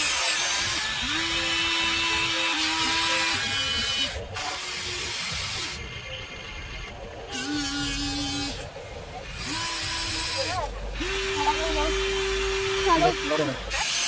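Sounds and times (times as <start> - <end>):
electric motors whining: 0.0 - 14.0.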